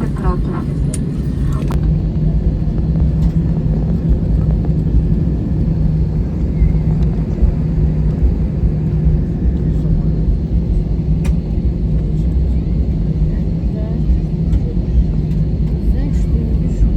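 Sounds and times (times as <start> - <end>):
aircraft cabin rumble and hum: 0.0 - 16.9.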